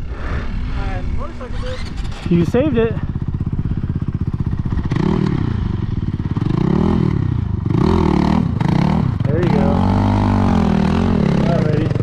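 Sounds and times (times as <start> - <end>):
dirt bike engine revving: 0.1 - 12.0.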